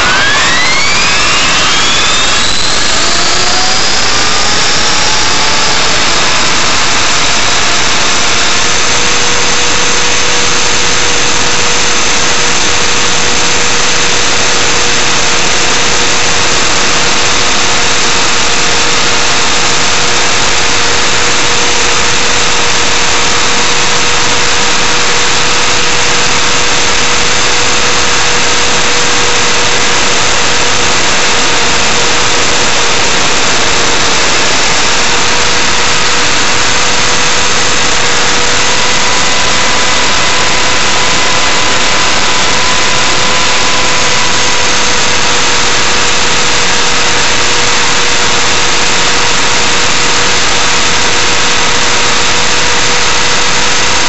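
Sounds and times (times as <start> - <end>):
motor and gear whine: 0.0 - 54.0.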